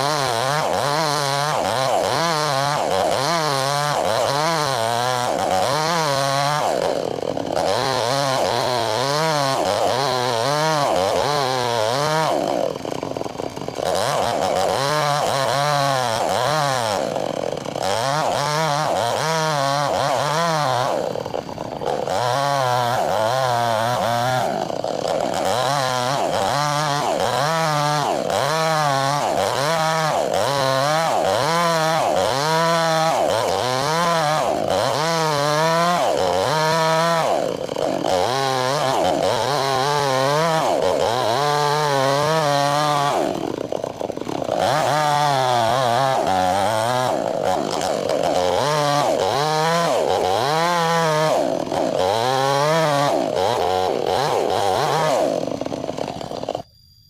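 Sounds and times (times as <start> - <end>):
chainsaw cutting log: 0.0 - 56.7.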